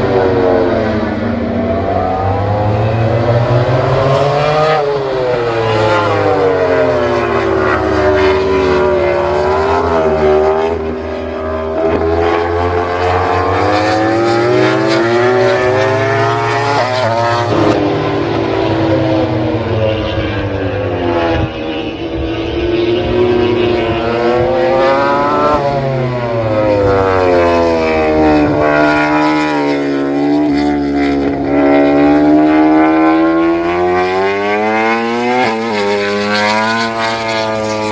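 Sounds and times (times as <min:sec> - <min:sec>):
racing motorcycle engines: 0:00.0 - 0:37.9.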